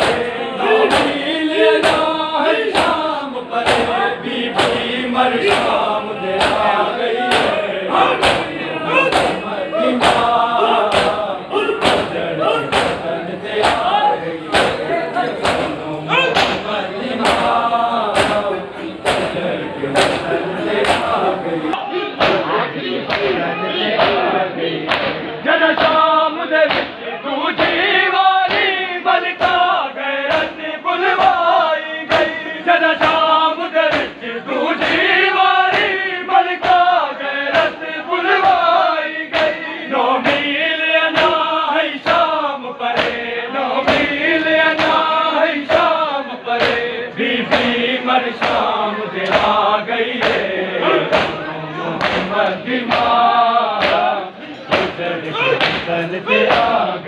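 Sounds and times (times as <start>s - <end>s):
rhythmic chest-beating slaps: 0.0s - 21.4s, 22.2s - 57.0s
lead voice chanting: 0.0s - 57.0s
men chanting a lament: 0.0s - 57.0s.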